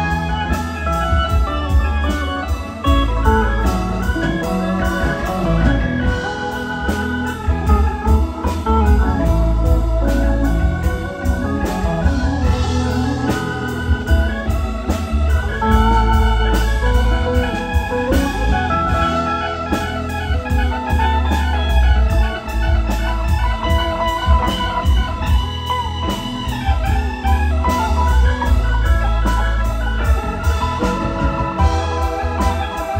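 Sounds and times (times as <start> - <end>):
bass guitar: 0.0 - 32.9
electric guitar: 0.0 - 32.9
organ keyboard: 0.0 - 32.9
steady drum beat: 0.0 - 32.9.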